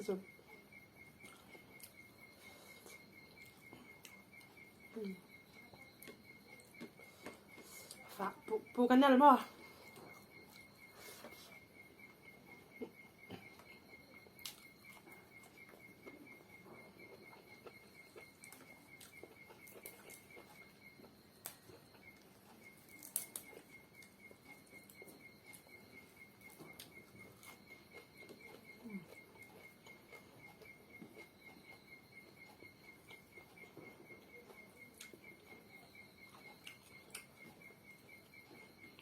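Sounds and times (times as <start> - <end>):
cricket trilling: 0.0 - 39.0.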